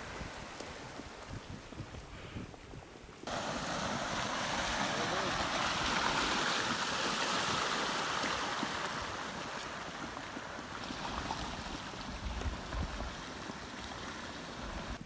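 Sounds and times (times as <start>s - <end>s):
muddy water rushing: 0.0s - 2.0s, 3.2s - 15.0s
wind buffeting microphone: 0.0s - 15.0s.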